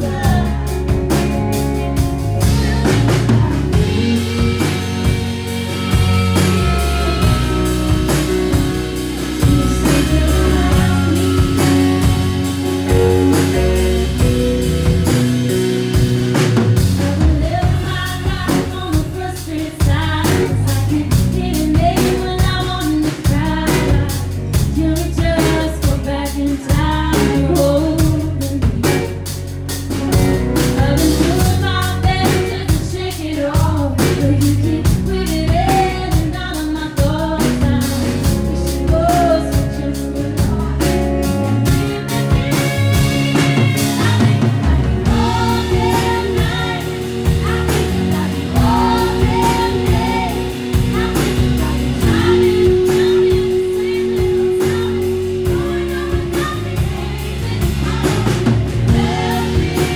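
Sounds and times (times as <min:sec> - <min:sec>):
woman singing: 0:00.0 - 0:01.4, 0:02.3 - 0:13.6, 0:16.8 - 0:29.3, 0:29.9 - 0:59.9
rock band playing: 0:00.0 - 0:59.9.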